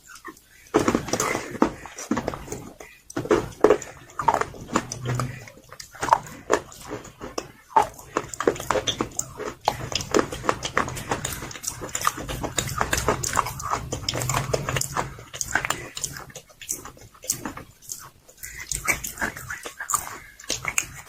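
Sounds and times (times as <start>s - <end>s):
crunching and chewing: 0.0s - 21.0s.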